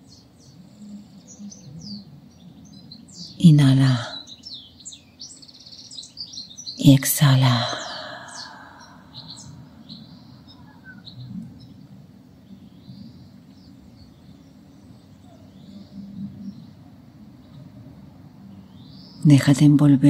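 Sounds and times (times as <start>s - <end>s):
distant birds chirping: 0.0s - 20.0s
low background hum: 0.0s - 20.0s.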